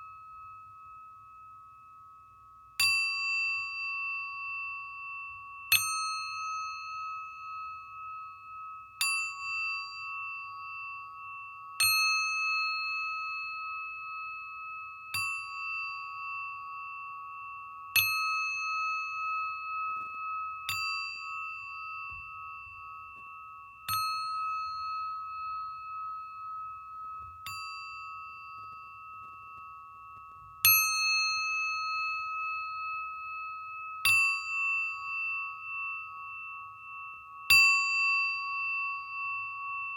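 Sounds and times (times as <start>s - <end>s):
singing bowl struck and ringing: 0.0s - 39.9s.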